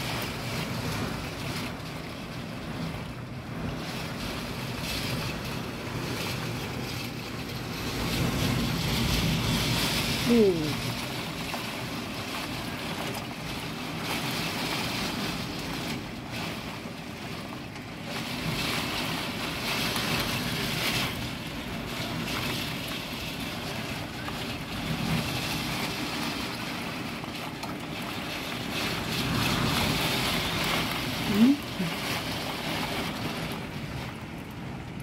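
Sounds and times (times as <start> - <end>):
gusting wind: 0.0 - 35.0
heavy rain against a window: 0.0 - 35.0.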